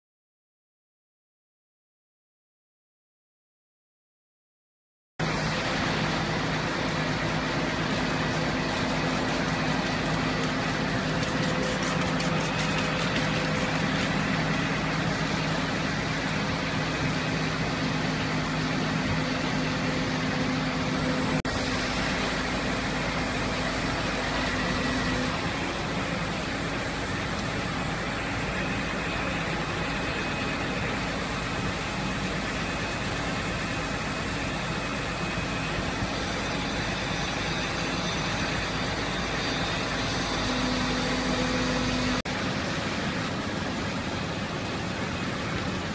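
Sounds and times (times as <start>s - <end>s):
fire engines idling: 5.2s - 45.9s
low engine drone: 5.2s - 45.9s
street noise: 5.2s - 45.9s.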